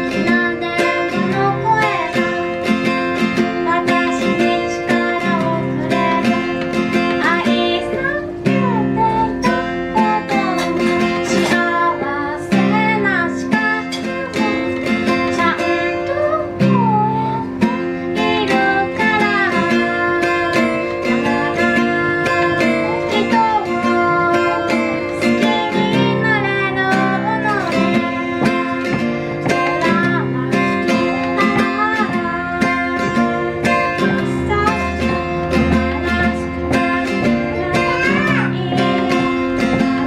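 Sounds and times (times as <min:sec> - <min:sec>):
strummed acoustic guitar: 0:00.0 - 0:40.0
woman singing slow song: 0:00.0 - 0:40.0.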